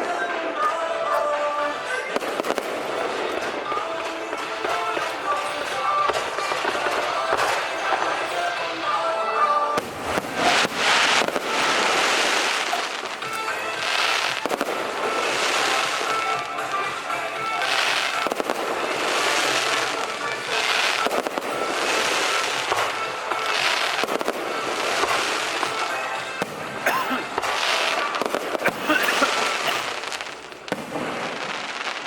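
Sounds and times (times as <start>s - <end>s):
firecrackers crackling: 0.0s - 32.0s
fireworks bangs: 0.0s - 32.0s.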